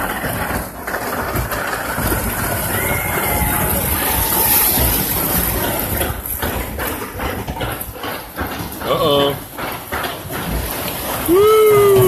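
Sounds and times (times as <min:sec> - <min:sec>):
water rushing down flume: 0:00.0 - 0:12.0.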